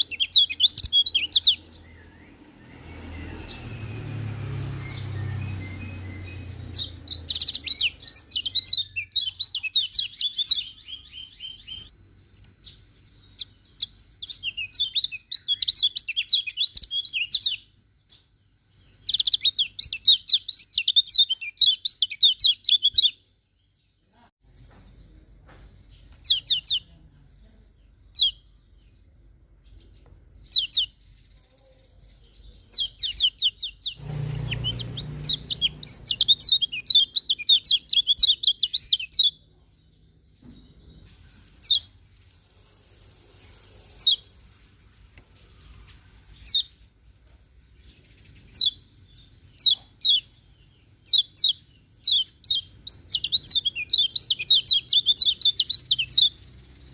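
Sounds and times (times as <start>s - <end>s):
bird twittering song: 0.0s - 42.0s, 43.4s - 44.4s, 45.4s - 46.8s, 47.6s - 56.9s.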